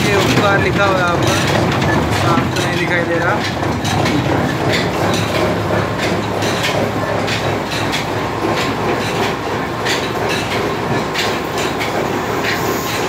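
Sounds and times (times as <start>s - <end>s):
metallic clacks: 0.0s - 13.0s
oil expeller mechanical drone: 0.0s - 13.0s.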